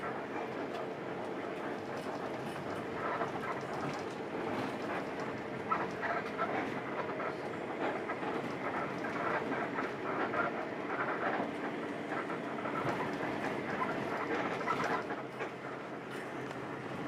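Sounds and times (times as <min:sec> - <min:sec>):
bus engine and tyre noise: 0:00.0 - 0:17.0.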